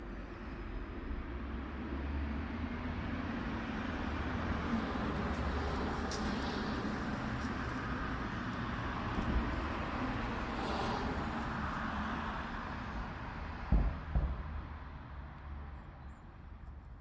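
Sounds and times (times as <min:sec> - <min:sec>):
rumble of passing vehicles: 0:00.0 - 0:17.0.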